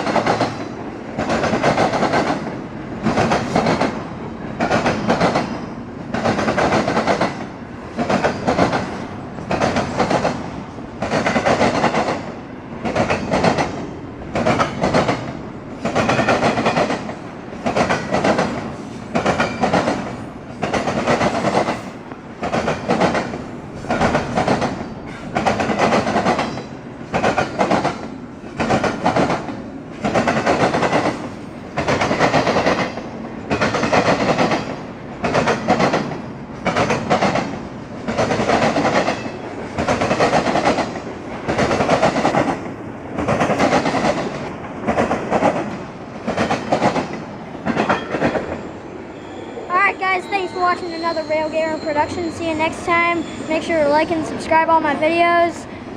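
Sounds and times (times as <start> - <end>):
train wheels clattering over rail joints: 0.0 - 48.7.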